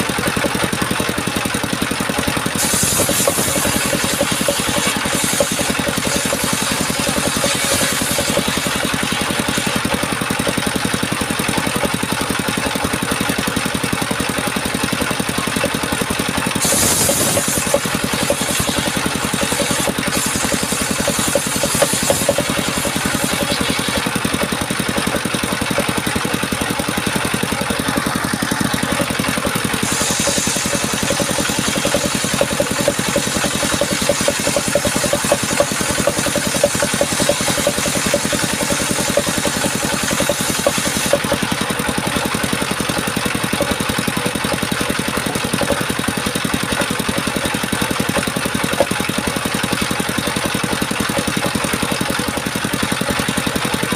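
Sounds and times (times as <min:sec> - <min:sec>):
power saw running: 0:00.0 - 0:53.9.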